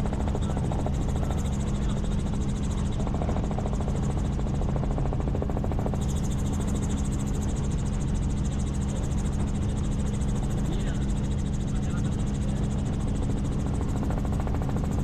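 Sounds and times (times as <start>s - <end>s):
constant low hum: 0.0s - 15.0s
helicopter turbine and rotor drone: 0.0s - 15.0s.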